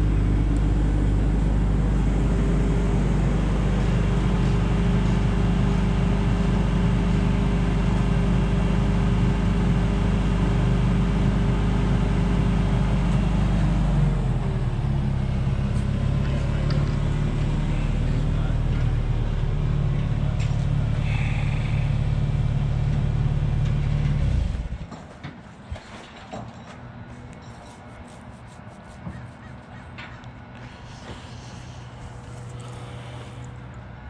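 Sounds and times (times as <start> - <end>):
forklift engine running under load: 0.0 - 25.9, 29.9 - 34.0.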